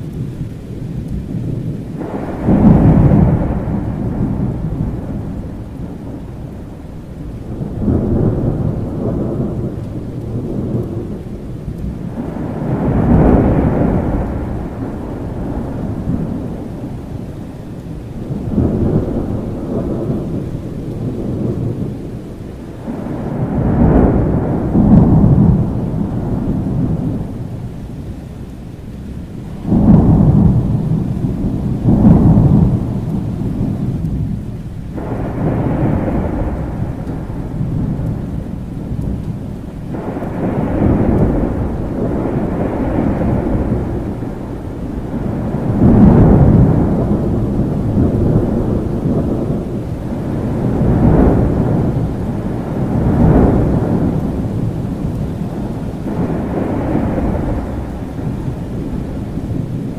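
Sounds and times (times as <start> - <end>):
rolling thunder: 0.0 - 59.9
steady rain: 0.0 - 59.9.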